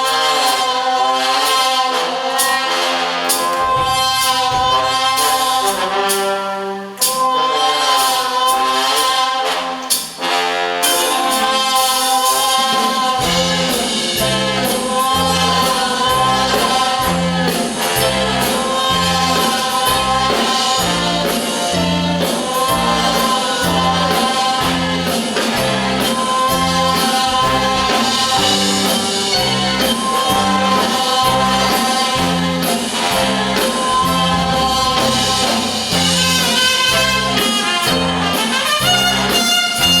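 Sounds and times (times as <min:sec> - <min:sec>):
brass band playing jazz blues: 0:00.0 - 0:40.0.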